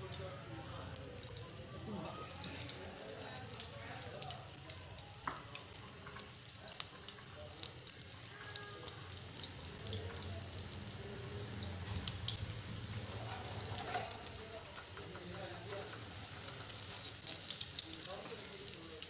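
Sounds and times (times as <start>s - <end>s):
patties sizzling in hot fat: 0.0s - 19.0s.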